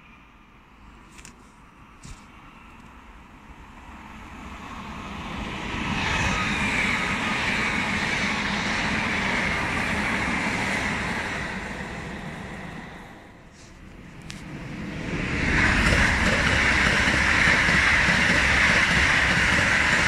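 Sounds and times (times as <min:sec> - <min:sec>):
high train whine: 0:00.0 - 0:20.0
electric train passing: 0:01.7 - 0:20.0.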